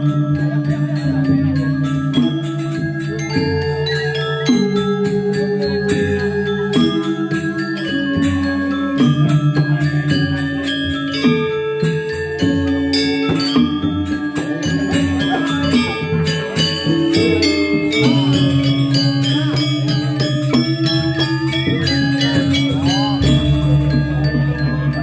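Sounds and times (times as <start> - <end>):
ringing metallophone notes: 0.0 - 25.0.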